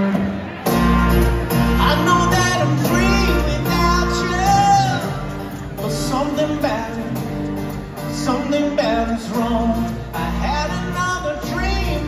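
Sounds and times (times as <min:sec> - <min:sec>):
bass and drums: 0:00.0 - 0:12.0
strummed acoustic guitars: 0:00.0 - 0:12.0.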